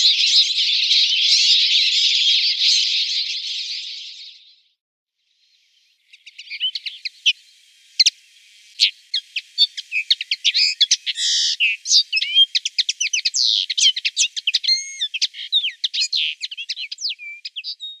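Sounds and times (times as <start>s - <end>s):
bird twittering song: 0.0s - 4.7s, 5.7s - 18.0s.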